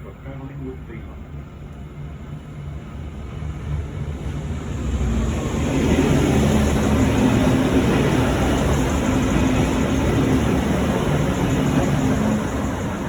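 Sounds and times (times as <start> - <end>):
train engines and wheels: 0.0 - 13.0.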